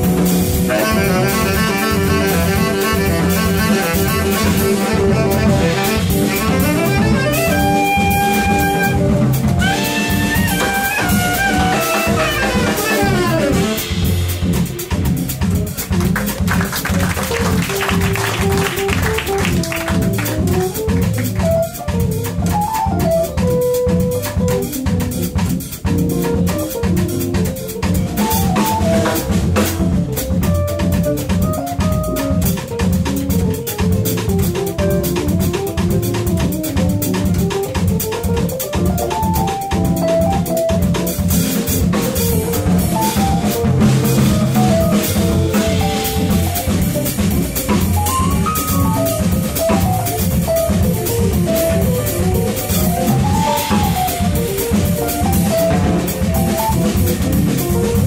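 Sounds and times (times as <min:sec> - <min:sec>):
double bass: 0:00.0 - 0:58.0
drum kit: 0:00.0 - 0:58.0.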